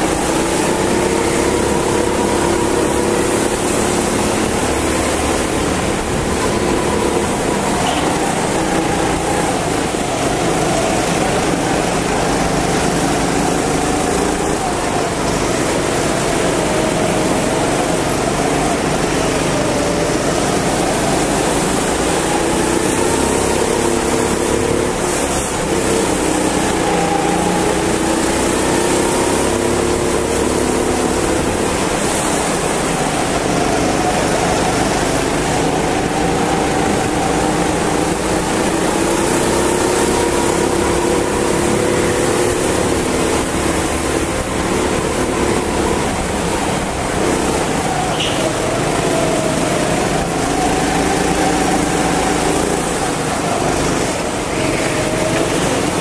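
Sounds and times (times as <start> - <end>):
go-kart engine racing: 0.0 - 56.0
steady rushing noise: 0.0 - 56.0.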